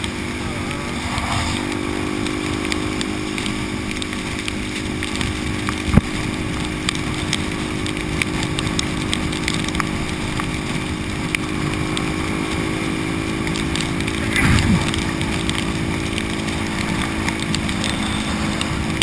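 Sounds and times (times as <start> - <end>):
motorcycle engine cruising: 0.0 - 19.0
rush of wind and rain: 0.0 - 19.0
raindrops ticking on camera: 1.6 - 19.0.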